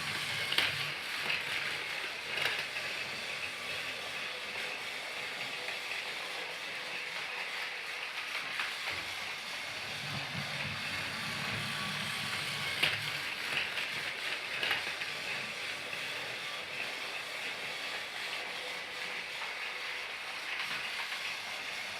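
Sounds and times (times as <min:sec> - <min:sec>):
toy train motor whirring: 0:00.0 - 0:21.9.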